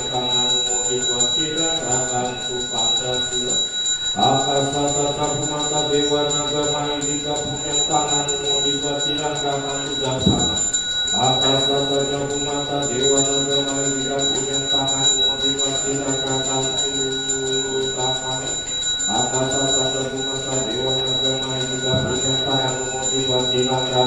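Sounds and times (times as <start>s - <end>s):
man chanting: 0.0s - 24.0s
small hand bell ringing: 0.0s - 24.0s.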